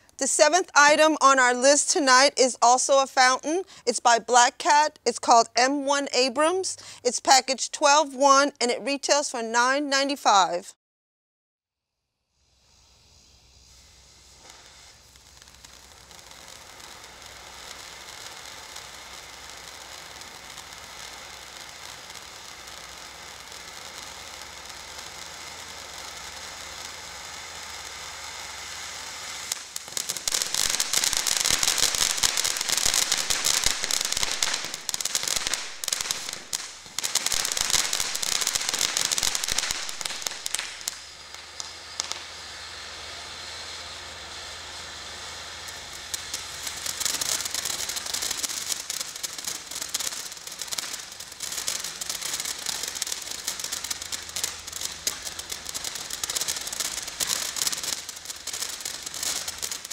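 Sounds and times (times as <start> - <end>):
firework sparks hissing: 0.0 - 5.5, 6.4 - 8.0, 12.2 - 59.9
firework crackling: 0.0 - 10.5, 12.2 - 59.9.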